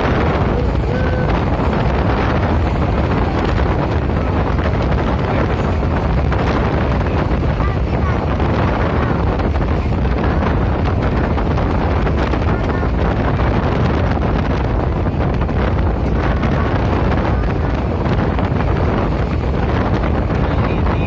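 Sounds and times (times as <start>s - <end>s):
moving train rumbling: 0.0s - 21.0s
wind buffeting microphone: 0.0s - 21.0s.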